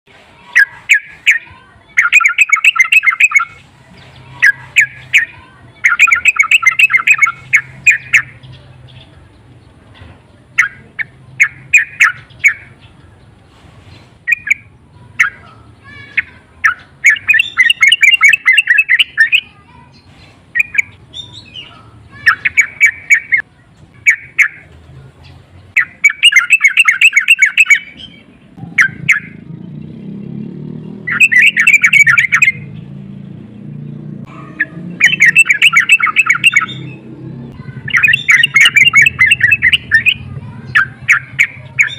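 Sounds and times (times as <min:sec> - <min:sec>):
bulbul chattering calls: 0:00.4 - 0:33.0, 0:33.9 - 0:41.9.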